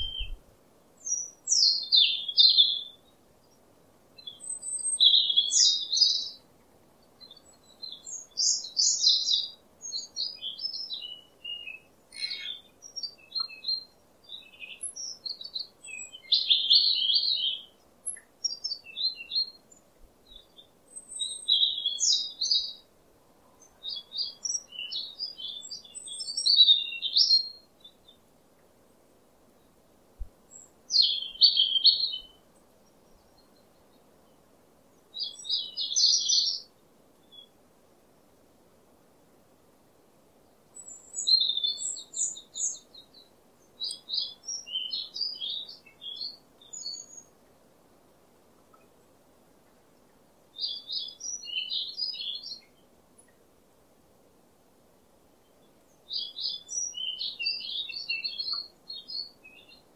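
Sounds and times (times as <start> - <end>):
small birds chirping and twittering: 0.0 - 59.9.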